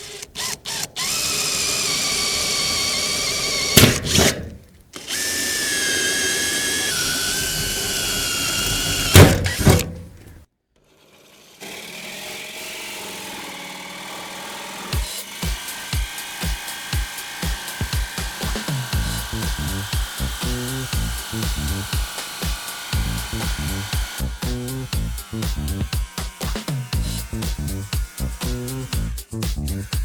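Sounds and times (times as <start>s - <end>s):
power drill boring through sheet metal: 0.0s - 30.0s.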